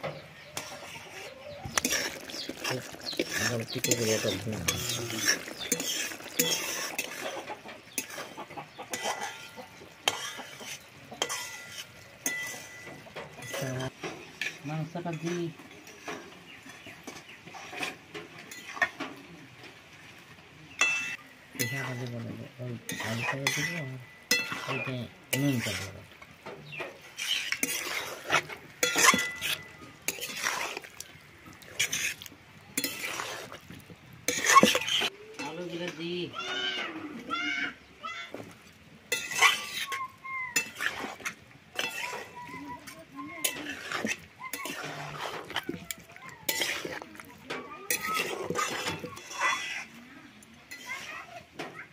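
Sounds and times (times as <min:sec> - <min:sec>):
spatula scraping a wok: 0:00.0 - 0:19.2, 0:20.8 - 0:36.0, 0:39.1 - 0:51.8
hot oil sizzling: 0:00.0 - 0:36.8, 0:37.8 - 0:51.9.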